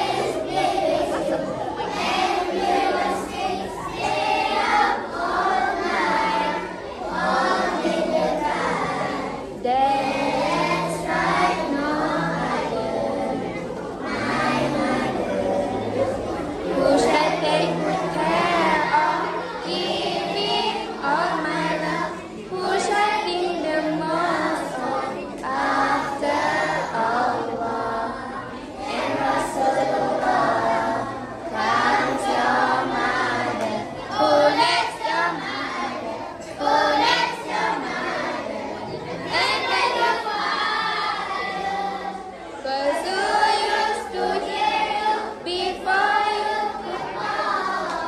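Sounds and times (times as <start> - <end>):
children's choir singing: 0.0 - 48.0.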